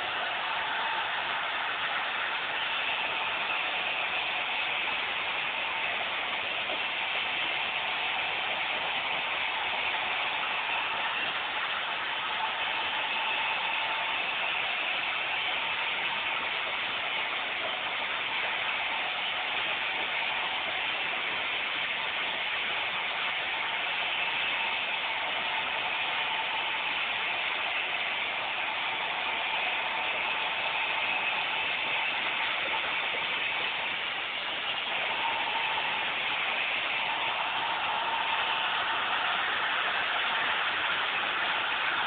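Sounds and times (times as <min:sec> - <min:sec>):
faint hum: 0:00.0 - 0:42.0.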